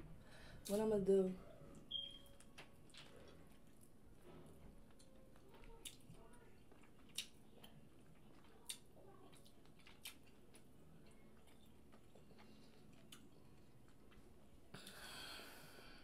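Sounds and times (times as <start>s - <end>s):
quiet chewing: 1.4s - 15.0s.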